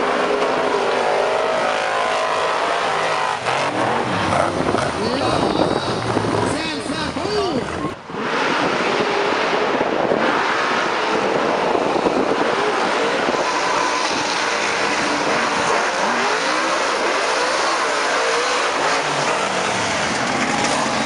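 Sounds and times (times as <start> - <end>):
monster truck engines revving: 0.0 - 21.0.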